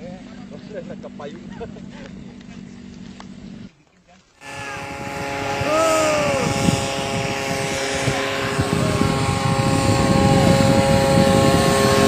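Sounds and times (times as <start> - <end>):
light plane propeller engine: 0.0 - 12.0.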